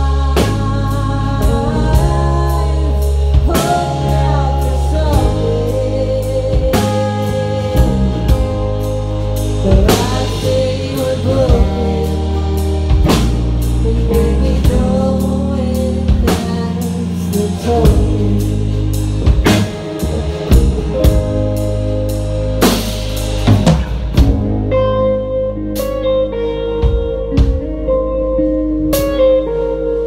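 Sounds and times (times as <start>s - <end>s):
acoustic and electric guitars: 0.0s - 30.0s
drum kit: 0.0s - 30.0s
electric bass: 0.0s - 30.0s
live band playing: 0.0s - 30.0s.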